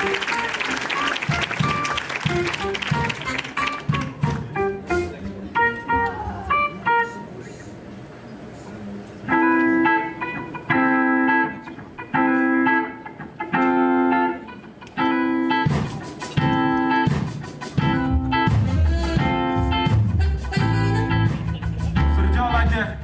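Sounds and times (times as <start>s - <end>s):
plucked guitar notes: 0.0s - 7.5s, 9.2s - 23.0s.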